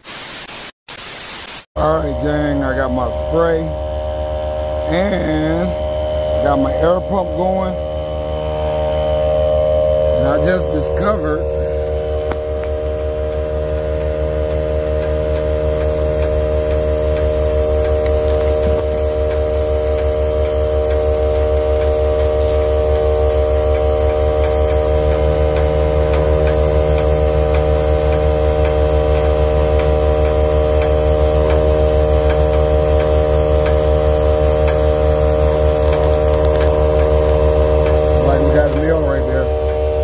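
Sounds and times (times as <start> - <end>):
electric air pump humming: 0.0 - 40.0.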